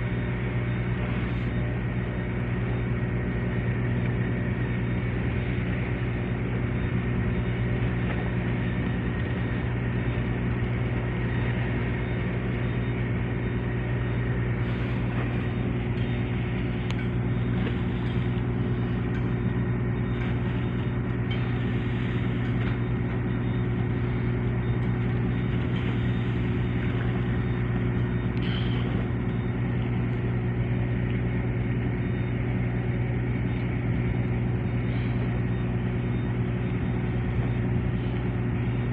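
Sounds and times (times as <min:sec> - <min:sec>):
large engine droning: 0:00.0 - 0:38.9.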